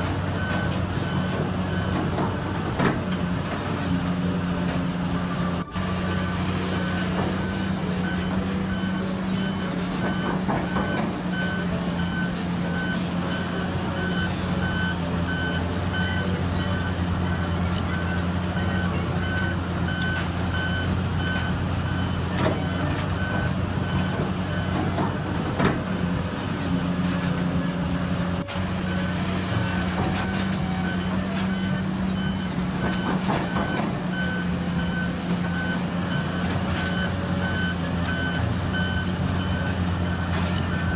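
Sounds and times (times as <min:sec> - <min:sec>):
reversing alarm beeping: 0:00.0 - 0:26.4, 0:27.0 - 0:40.9
heavy diesel engine running: 0:00.0 - 0:40.9.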